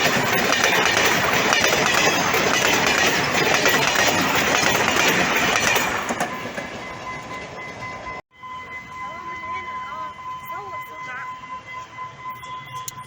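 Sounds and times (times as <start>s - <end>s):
passenger train passing: 0.0s - 13.0s.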